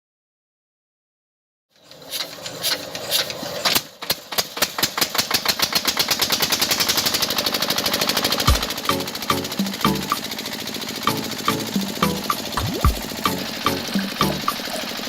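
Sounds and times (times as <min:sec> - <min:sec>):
small engine starting and running: 0:01.8 - 0:15.0.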